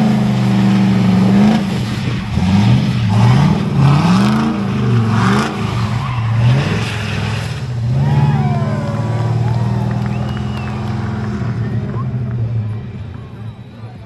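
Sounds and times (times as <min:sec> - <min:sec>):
car engine revving: 0:00.0 - 0:13.4.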